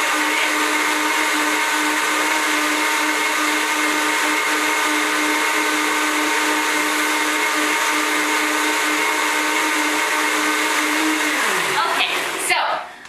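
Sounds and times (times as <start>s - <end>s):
blender whining: 0.0s - 13.0s.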